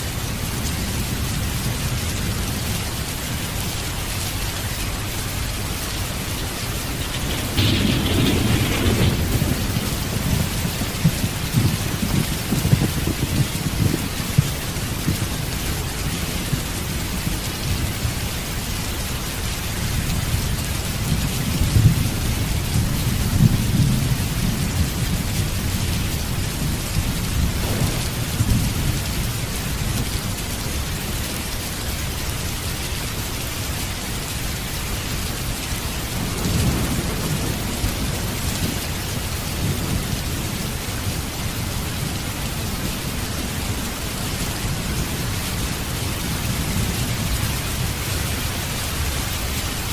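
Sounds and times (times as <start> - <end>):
heavy rain: 0.0 - 49.9
rolling thunder: 0.1 - 32.6, 35.1 - 49.9.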